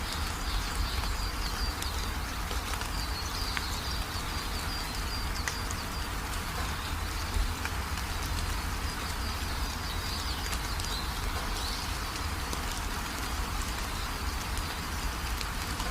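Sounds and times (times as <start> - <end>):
rain falling: 0.0 - 15.9
raindrop ticks: 0.0 - 15.9.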